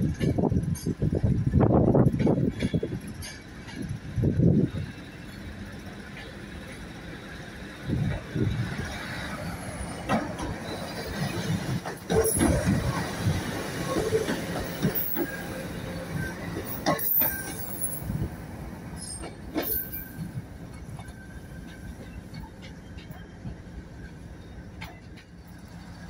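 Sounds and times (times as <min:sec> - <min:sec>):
diesel train engine rumble: 0:00.0 - 0:26.0
train wheels clicking on track: 0:00.0 - 0:26.0.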